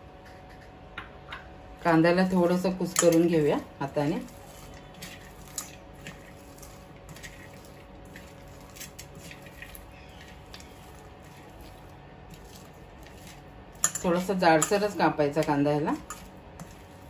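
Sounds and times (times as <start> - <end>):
onion squishing and crackling: 3.0 - 17.0.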